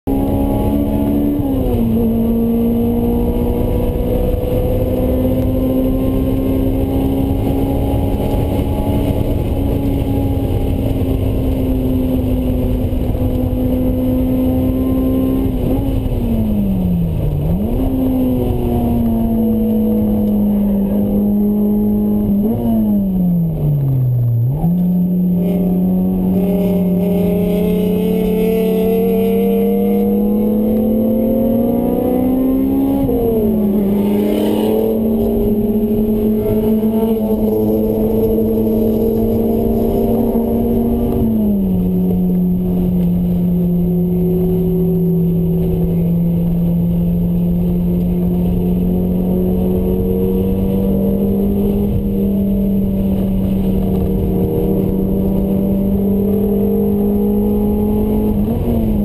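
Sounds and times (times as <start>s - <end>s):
car engine revving high: 0.0s - 59.0s.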